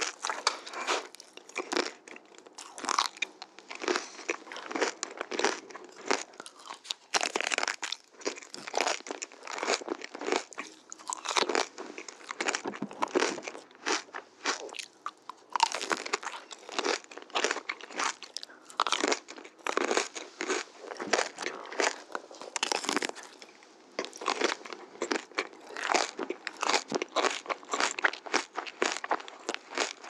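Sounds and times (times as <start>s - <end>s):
crunching and chewing ice cream: 0.0s - 30.0s.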